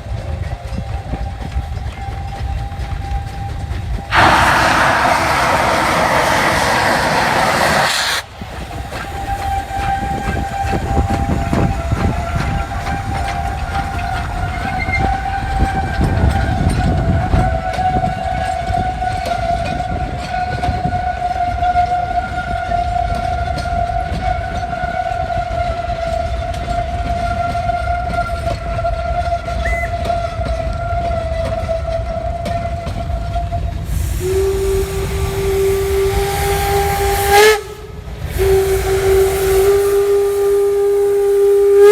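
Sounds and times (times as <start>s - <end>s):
steam train rumbling with knocks: 0.0s - 41.9s.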